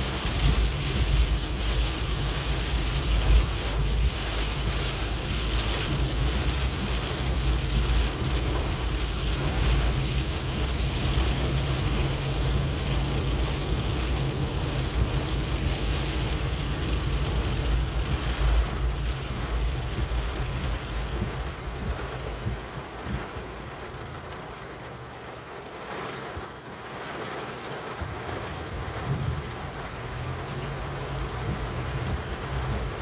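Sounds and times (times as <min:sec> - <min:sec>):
wind rumbling on microphone: 0:00.0 - 0:23.9, 0:28.0 - 0:33.0
rain falling: 0:00.0 - 0:33.0.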